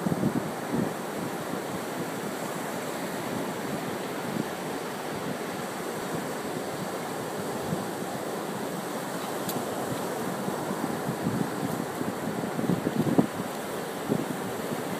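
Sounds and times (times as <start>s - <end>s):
ocean waves breaking on beach: 0.0s - 14.9s.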